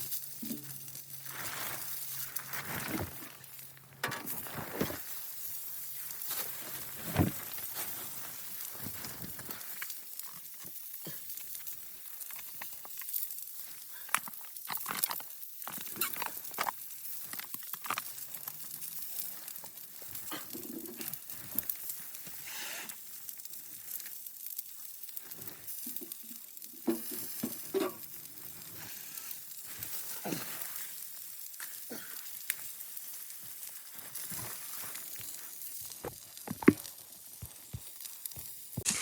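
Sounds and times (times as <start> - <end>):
food sizzling in a pan: 5.0 - 39.0.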